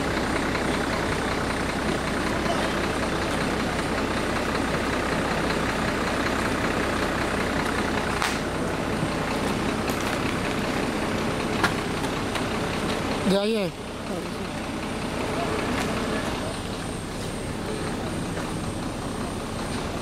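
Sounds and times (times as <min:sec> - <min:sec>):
bus engine idling: 0:00.0 - 0:20.0.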